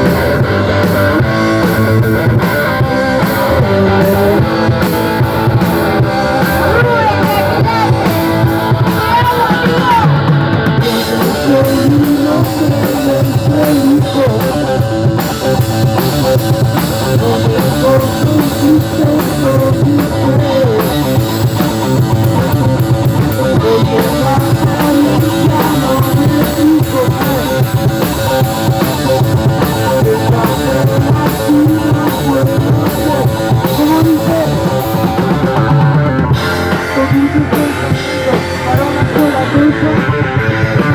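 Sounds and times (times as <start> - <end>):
rock and roll band playing: 0.0 - 40.9.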